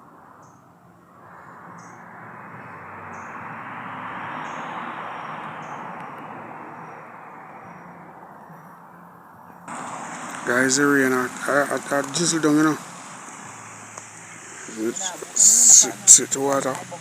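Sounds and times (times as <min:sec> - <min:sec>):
rushing noise: 0:00.0 - 0:08.4, 0:09.7 - 0:17.0.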